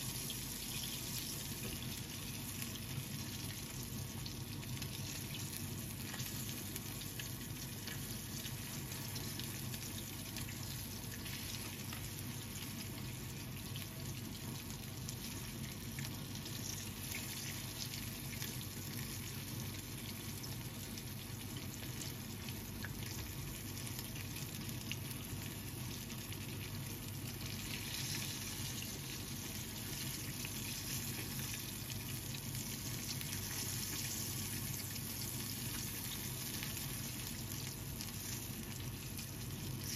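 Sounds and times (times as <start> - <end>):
chicken sizzling in frying oil: 0.0 - 39.9.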